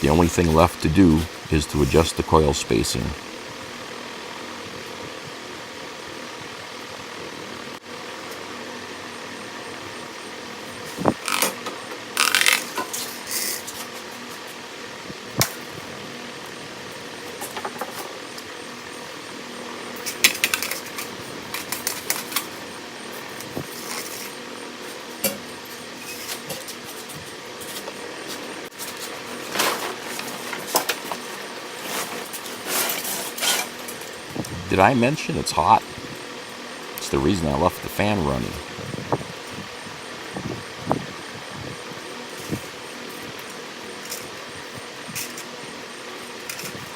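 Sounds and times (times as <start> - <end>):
fan running: 0.0 - 46.9.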